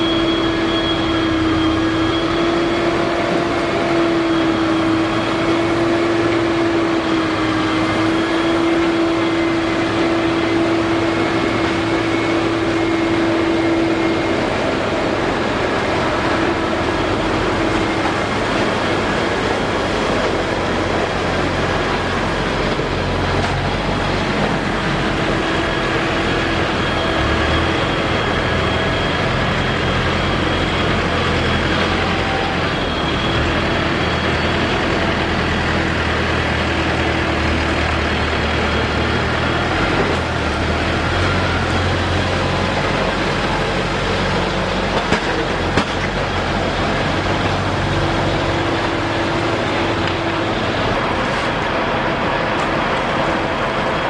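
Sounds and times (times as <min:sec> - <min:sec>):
compact tractor passing: 0:00.0 - 0:54.0
heavy diesel machines droning: 0:00.0 - 0:54.0
machine whines: 0:00.0 - 0:54.0.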